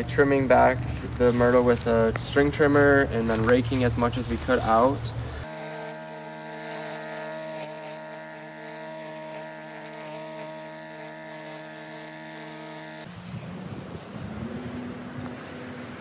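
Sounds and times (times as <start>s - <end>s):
string trimmer engine running: 0.0s - 13.3s.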